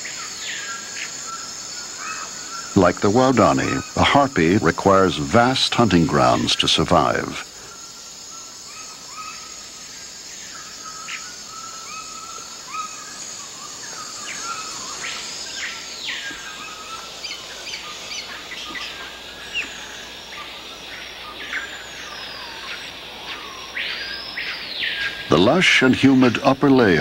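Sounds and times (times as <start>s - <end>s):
birds calling and whistling: 0.0s - 27.0s
high-pitched insect chorus: 0.0s - 27.0s.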